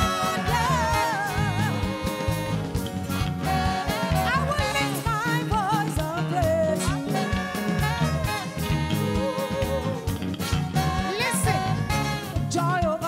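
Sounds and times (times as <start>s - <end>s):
gospel band playing: 0.0s - 13.0s.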